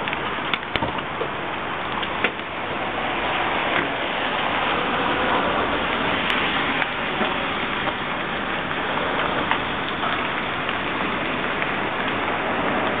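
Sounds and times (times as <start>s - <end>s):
hail ticks: 0.0s - 13.0s
steady rain hiss: 0.0s - 13.0s.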